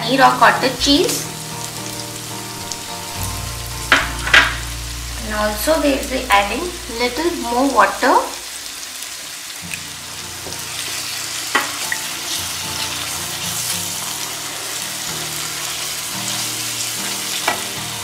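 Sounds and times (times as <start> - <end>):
paste sizzling in a frying pan: 0.1 - 18.0.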